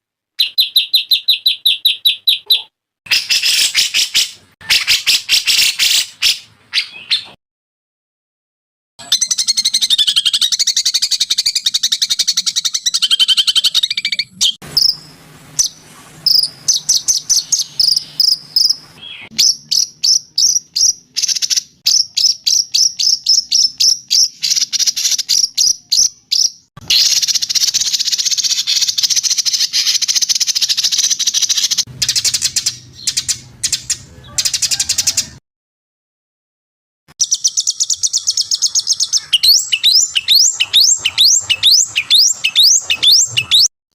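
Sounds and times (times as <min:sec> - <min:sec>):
songbird trilling and chirping: 0:00.4 - 0:07.4, 0:09.0 - 0:35.3, 0:37.2 - 0:43.7.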